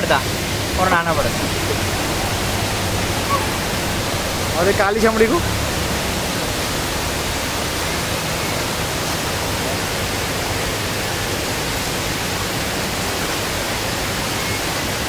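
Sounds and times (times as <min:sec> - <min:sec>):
water rushing down steps: 0:00.0 - 0:15.0.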